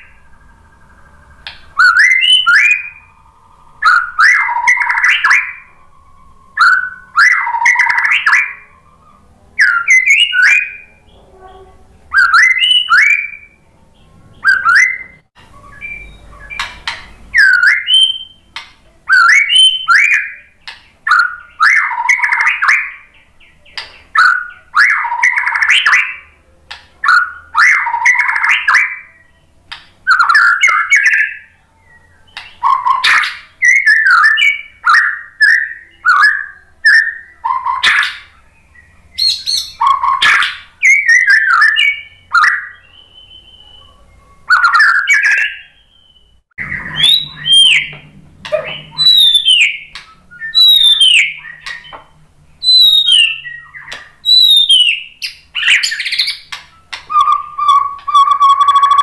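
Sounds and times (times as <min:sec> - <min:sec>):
bird singing whistled phrases: 0:00.0 - 0:26.4, 0:27.0 - 0:52.0, 0:52.6 - 0:59.0.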